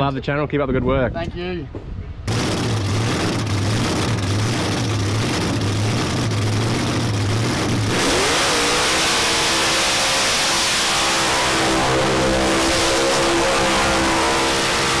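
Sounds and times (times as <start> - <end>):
car engine idling and revving: 2.3 - 15.0.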